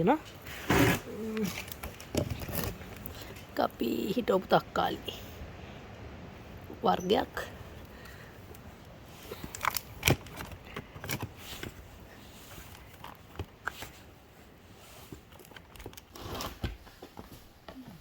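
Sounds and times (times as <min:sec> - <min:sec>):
rustling and scraping of potting soil: 0:00.0 - 0:18.0.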